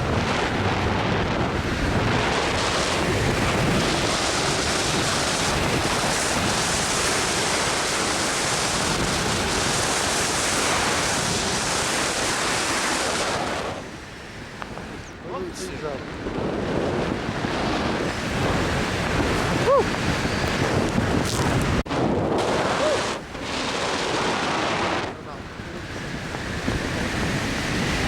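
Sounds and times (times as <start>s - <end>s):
strong wind rushing over microphone: 0.0s - 28.0s.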